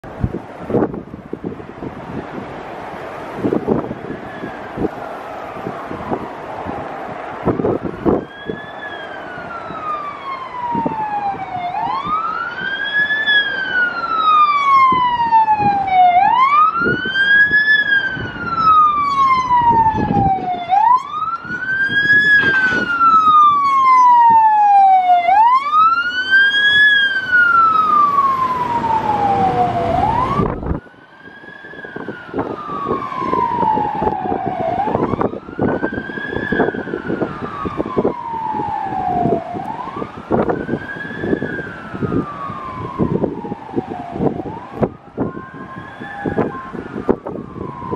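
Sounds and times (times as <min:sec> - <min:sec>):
fire truck siren wailing: 0:00.0 - 0:47.9.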